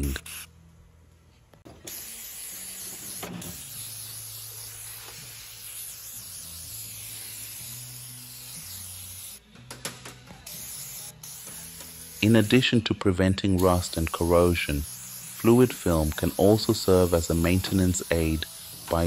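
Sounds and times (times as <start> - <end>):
aerosol spray can hissing: 0.0 - 0.5, 1.9 - 9.4, 10.5 - 12.6, 13.6 - 19.0.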